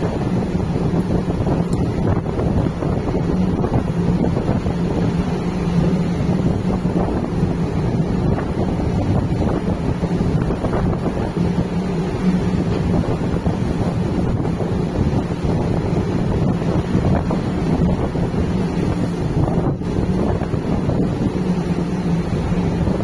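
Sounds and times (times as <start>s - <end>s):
sea water rushing along hull: 0.0s - 23.0s
steady low hum: 0.0s - 23.0s
wind buffeting microphone: 0.0s - 23.0s.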